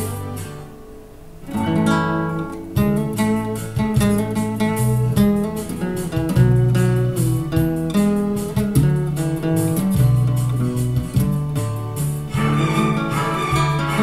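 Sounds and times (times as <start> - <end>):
classical guitar fingerpicked: 0.0 - 14.0.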